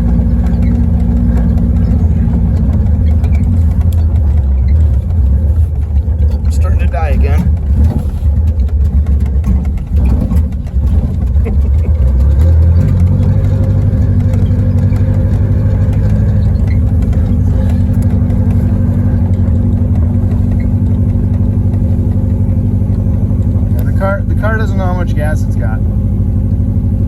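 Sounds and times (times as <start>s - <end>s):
car engine running unevenly: 0.0s - 27.0s.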